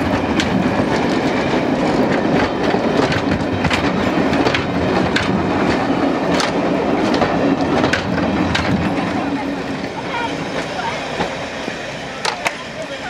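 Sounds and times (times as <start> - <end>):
train wheels rumbling on track: 0.0 - 13.0
wheels clicking on rail joints: 0.0 - 13.0.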